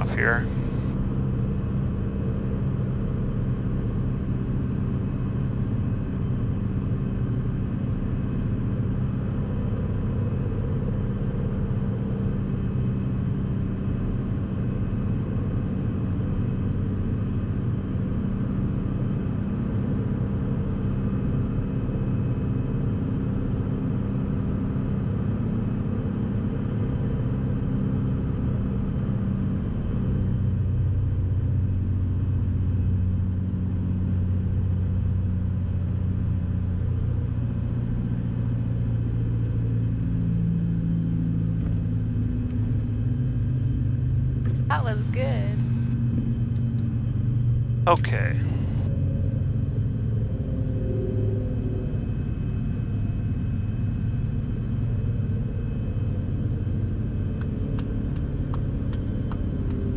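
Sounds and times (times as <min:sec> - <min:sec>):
propeller aircraft engine droning: 0:00.0 - 0:59.9.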